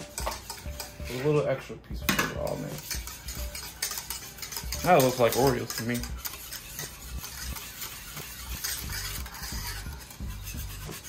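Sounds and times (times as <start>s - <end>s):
whisk scraping steel pan: 0.0s - 11.0s.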